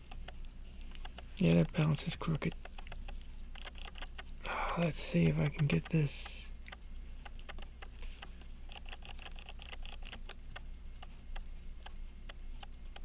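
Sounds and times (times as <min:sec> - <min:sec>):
pocket watch ticking: 0:00.0 - 0:13.0.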